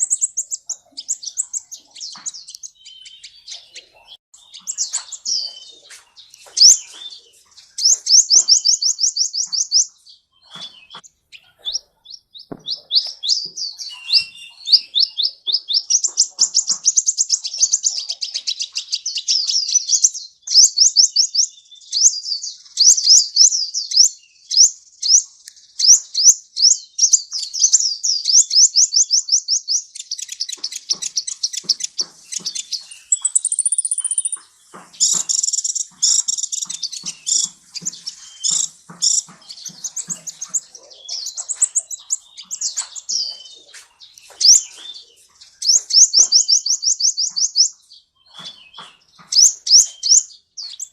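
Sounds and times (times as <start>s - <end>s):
sunbird singing high trills: 0.0s - 50.9s.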